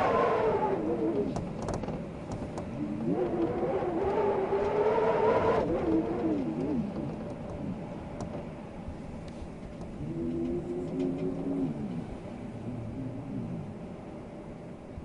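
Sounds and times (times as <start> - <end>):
wind howling and whistling: 0.0 - 15.0.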